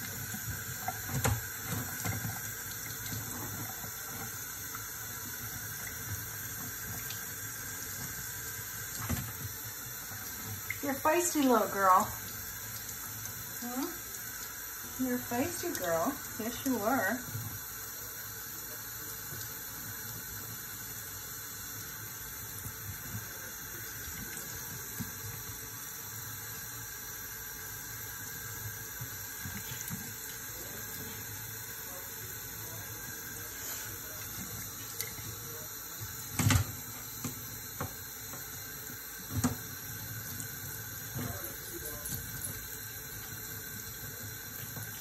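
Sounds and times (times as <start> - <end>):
faucet running into sink: 0.0 - 45.0.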